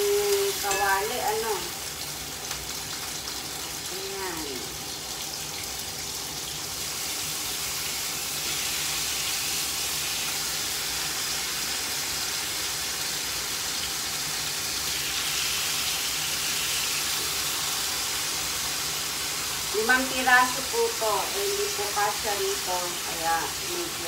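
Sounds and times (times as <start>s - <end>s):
pork sizzling in frying pan: 0.0s - 24.0s.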